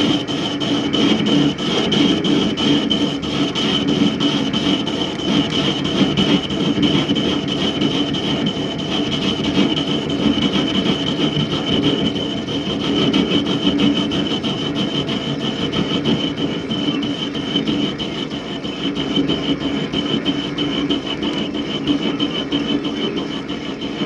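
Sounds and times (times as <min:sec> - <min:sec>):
lathe motor whine: 0:00.0 - 0:24.0.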